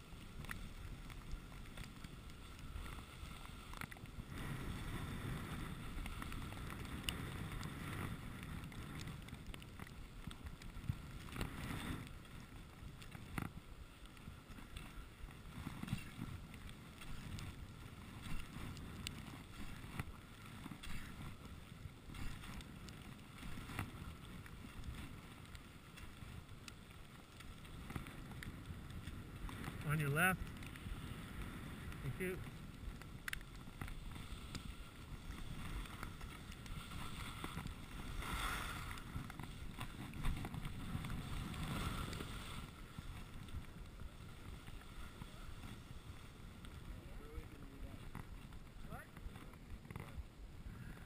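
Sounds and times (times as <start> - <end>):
skis scraping over snow: 0.0 - 51.0
wind on microphone: 0.0 - 51.0.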